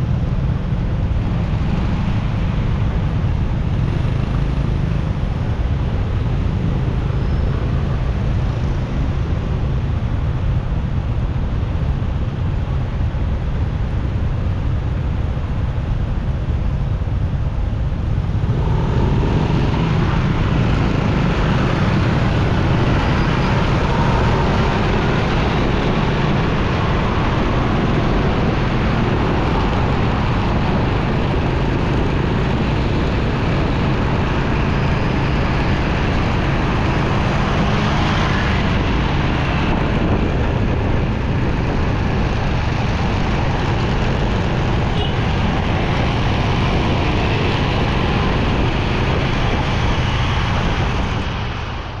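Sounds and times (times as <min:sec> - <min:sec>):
motorcycle engine hum: 0:00.0 - 0:52.0
wind and road noise: 0:00.0 - 0:52.0.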